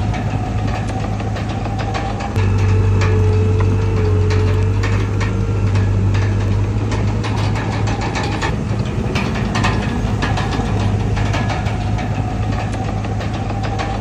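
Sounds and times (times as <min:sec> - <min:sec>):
bulldozer diesel engine: 0:00.0 - 0:14.0
metallic clanks and rattles: 0:00.0 - 0:14.0.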